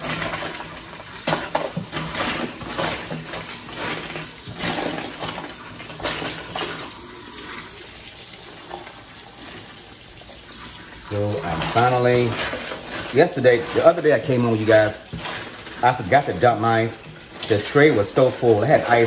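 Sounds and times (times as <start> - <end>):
ice clattering into sink: 0.0 - 9.8, 11.0 - 19.0
tap water running into sink: 0.0 - 19.0.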